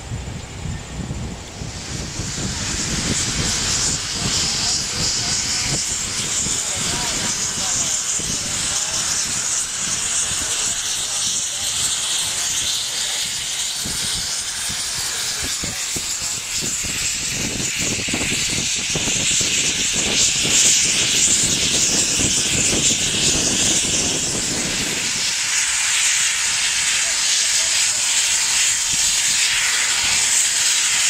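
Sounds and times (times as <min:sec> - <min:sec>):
steam locomotive hissing steam: 0:00.0 - 0:31.0.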